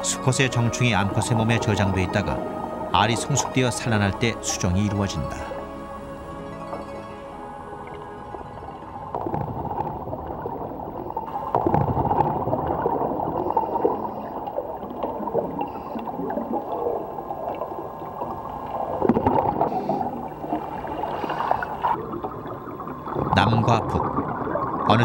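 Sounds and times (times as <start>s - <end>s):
muffled underwater gurgling: 0.0s - 6.8s, 7.5s - 25.0s.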